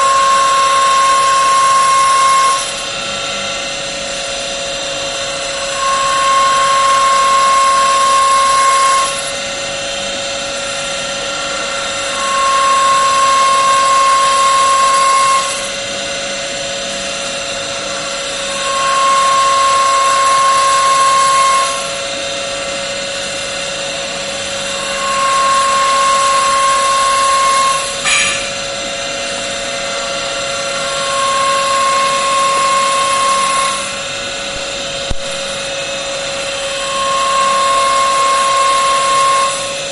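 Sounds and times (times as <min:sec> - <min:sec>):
machine high whine: 0:00.0 - 0:39.9
wood-turning machine humming: 0:00.0 - 0:39.9.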